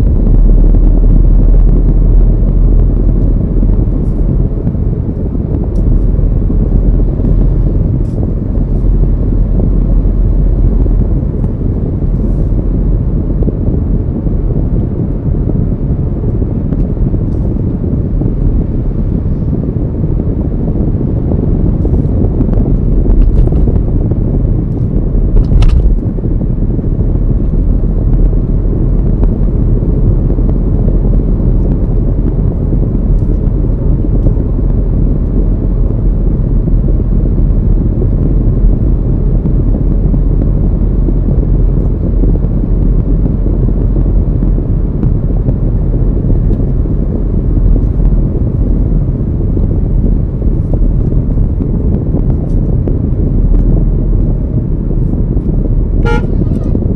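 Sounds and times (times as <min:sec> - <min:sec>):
car driving low rumble: 0:00.0 - 0:56.9
road and wind noise: 0:00.0 - 0:56.9.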